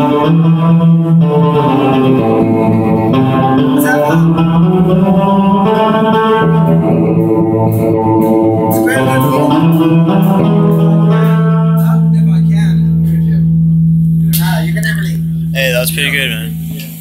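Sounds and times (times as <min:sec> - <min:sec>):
guitar playing chords: 0:00.0 - 0:17.0.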